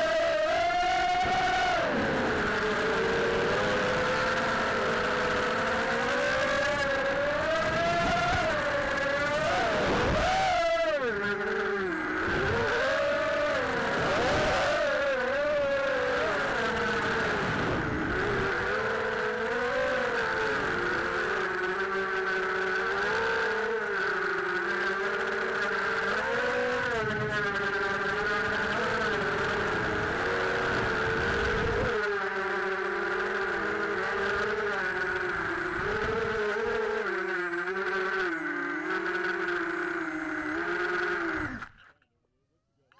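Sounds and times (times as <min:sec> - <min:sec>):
drone motors buzzing: 0:00.0 - 0:42.0.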